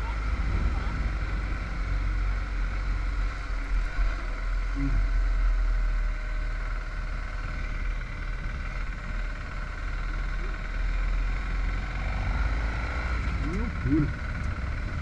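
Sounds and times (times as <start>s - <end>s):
motorcycle engine rumble: 0.0s - 15.0s
wind and road noise: 0.0s - 15.0s.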